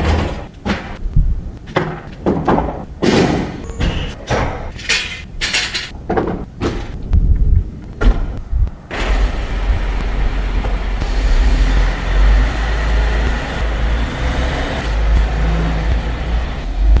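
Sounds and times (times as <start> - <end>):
motorized equipment rumbling: 0.0 - 17.0.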